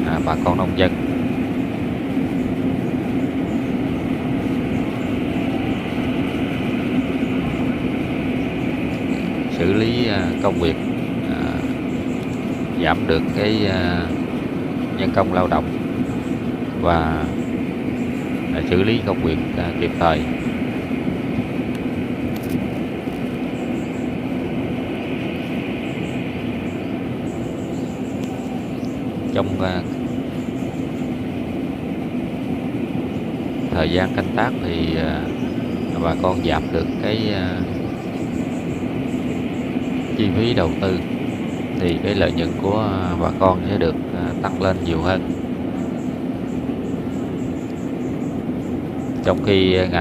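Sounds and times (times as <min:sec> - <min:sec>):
combine harvester droning: 0:00.0 - 0:50.0.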